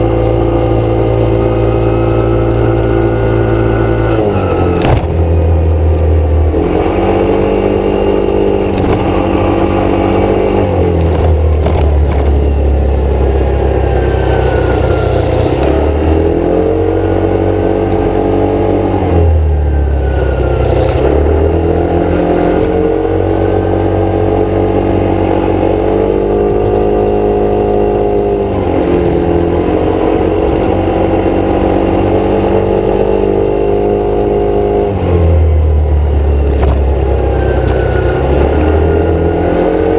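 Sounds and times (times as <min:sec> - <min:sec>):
vehicle engine changing pitch: 0:00.0 - 0:39.9.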